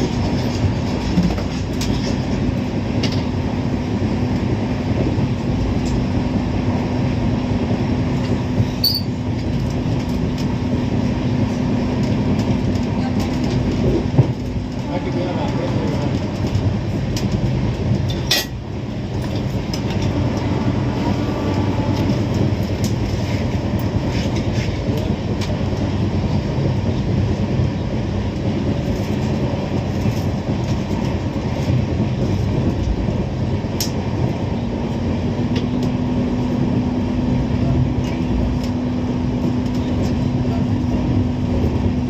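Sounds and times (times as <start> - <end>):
train rumbling on track: 0.0 - 42.0.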